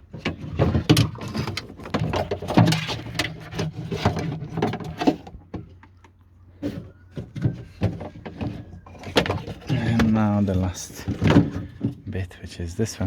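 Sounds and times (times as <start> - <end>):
plastic and metal parts rattling: 0.0 - 5.9, 6.6 - 12.1.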